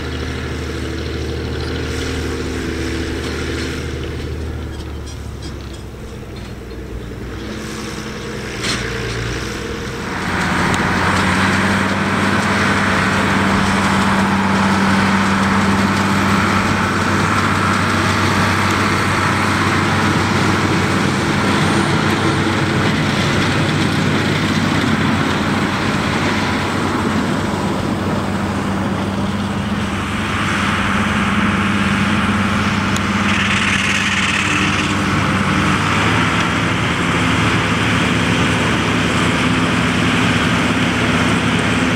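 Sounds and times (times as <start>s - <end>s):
forage harvester cutterhead and blower: 0.0s - 41.9s
tractor engine drone: 0.0s - 41.9s.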